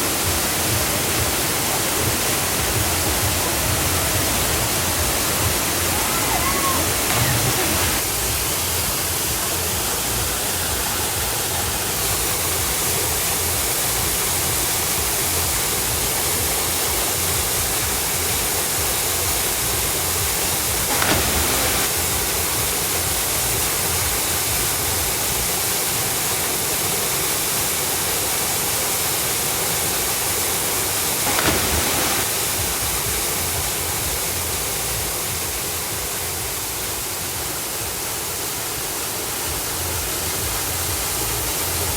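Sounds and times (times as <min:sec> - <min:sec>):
waterfall pouring: 0:00.0 - 0:41.9.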